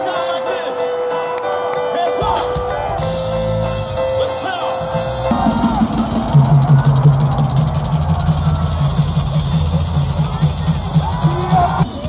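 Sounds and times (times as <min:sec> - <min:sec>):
live rock band playing: 0:00.4 - 0:12.0
bass and drums: 0:02.2 - 0:12.0.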